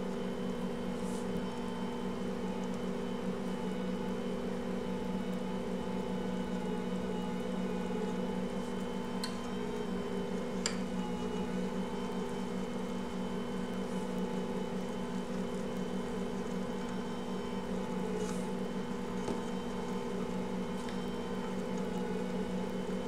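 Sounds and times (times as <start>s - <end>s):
stand mixer motor humming: 0.0s - 23.0s.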